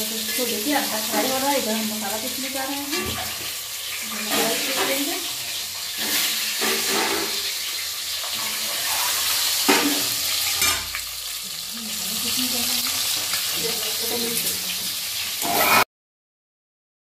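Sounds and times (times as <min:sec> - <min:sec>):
eggs sizzling in hot oil: 0:00.0 - 0:15.9.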